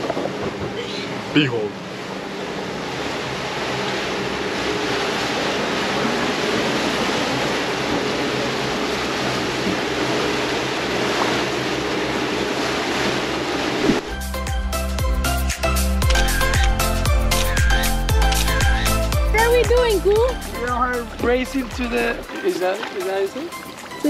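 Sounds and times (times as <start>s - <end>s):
waves: 0.0s - 24.0s.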